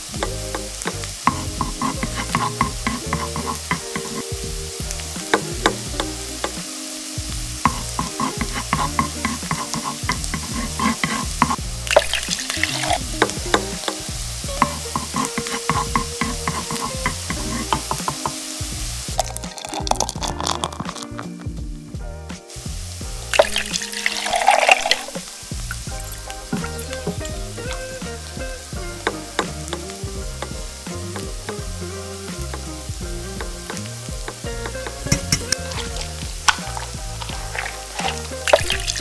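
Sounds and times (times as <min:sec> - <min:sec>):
utensil clicking against pan: 0:00.0 - 0:21.4, 0:23.4 - 0:39.0
food sizzling in hot oil: 0:00.0 - 0:39.0.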